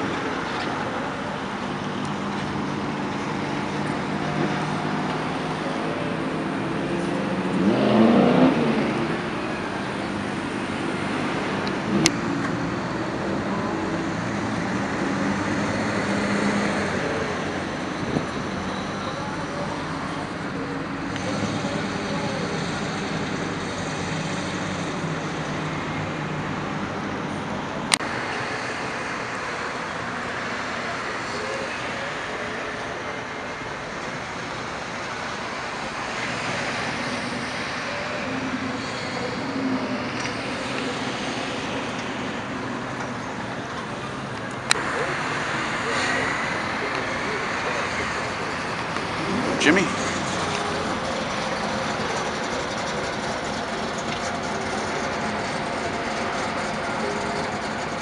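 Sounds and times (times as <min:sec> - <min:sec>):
cars driving past: 0:00.0 - 0:58.0.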